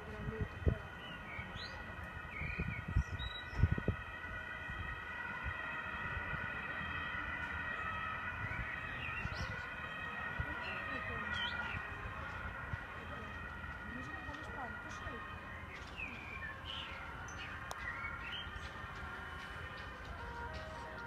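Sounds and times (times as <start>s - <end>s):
distant sirens: 0.0s - 21.0s.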